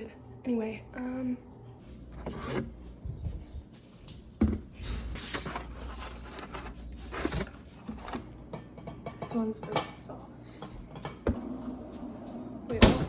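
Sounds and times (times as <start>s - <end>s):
rustling and scraping of objects: 1.8s - 12.5s.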